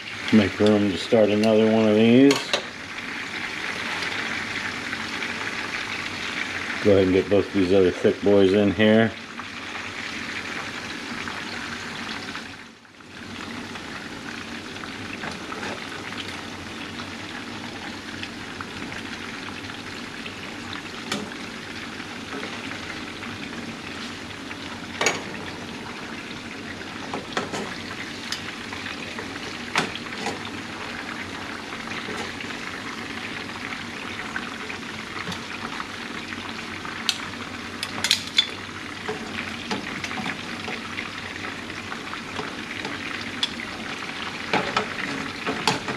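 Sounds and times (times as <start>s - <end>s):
fish fillets sizzling in oil: 0.0s - 8.3s, 9.2s - 45.9s.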